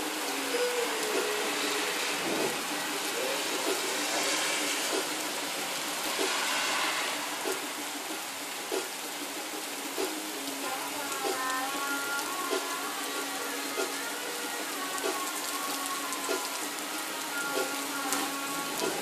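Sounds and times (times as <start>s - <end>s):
steady rain hissing: 0.0s - 19.0s.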